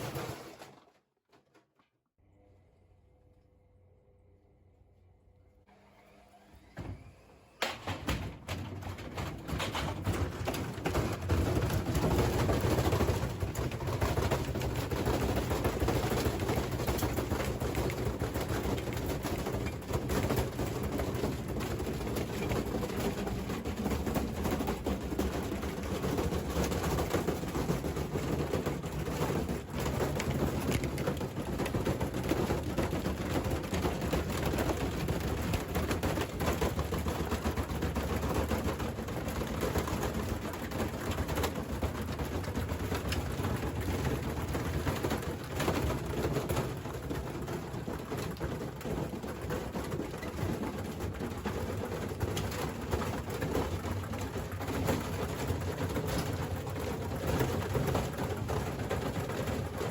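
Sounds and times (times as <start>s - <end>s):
washing machine running: 0.0s - 0.9s, 5.7s - 59.9s
cabinet rattling and knocking: 7.7s - 59.9s.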